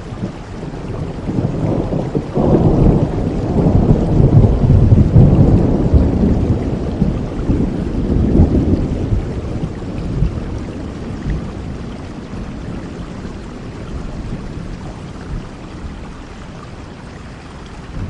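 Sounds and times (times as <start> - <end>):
thunder rumbling: 0.0 - 16.6
steady rain: 0.0 - 18.0.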